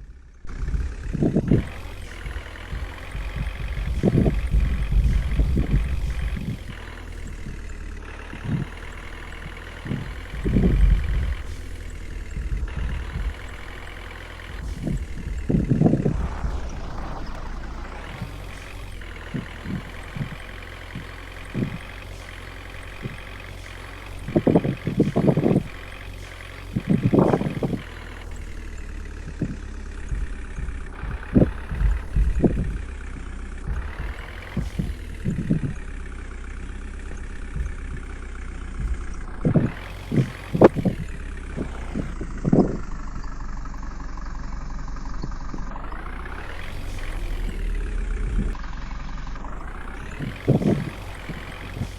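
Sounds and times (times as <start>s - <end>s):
truck engine running: 0.0s - 51.9s
loud thumps and knocks: 0.5s - 35.9s, 36.5s - 43.1s, 45.6s - 48.6s, 49.6s - 51.9s.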